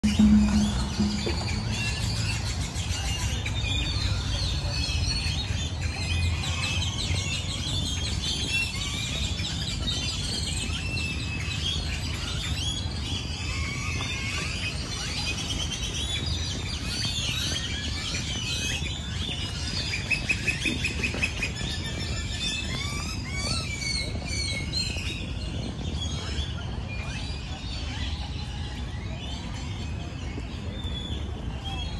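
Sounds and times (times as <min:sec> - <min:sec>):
birds chirping and calling: 0:00.0 - 0:31.9
low city rumble: 0:00.0 - 0:31.9
rapidly repeated bird notes: 0:00.0 - 0:31.9.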